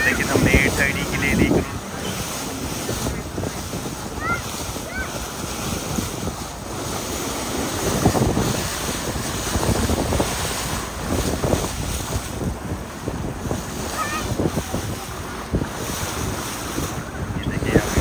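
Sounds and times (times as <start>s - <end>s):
sea water splashing around boat: 0.0s - 18.0s
wind buffeting microphone: 0.0s - 18.0s.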